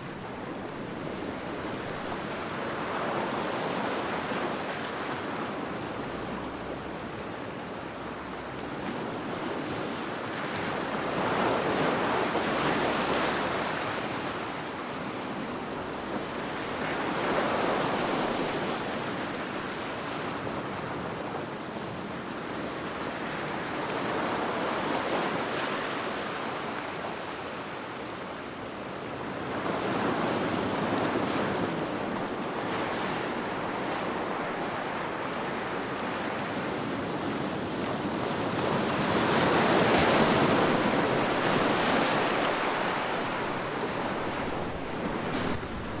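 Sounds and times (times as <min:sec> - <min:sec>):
waves breaking on beach: 0:00.0 - 0:46.0
wind: 0:00.0 - 0:46.0.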